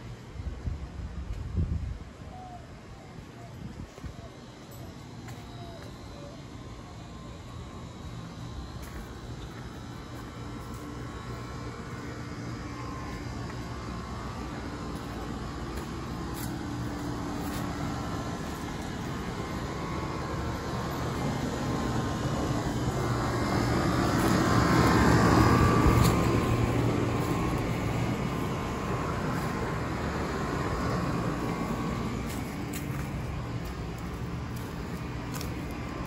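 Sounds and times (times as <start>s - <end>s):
air conditioner unit humming: 0.0s - 36.0s.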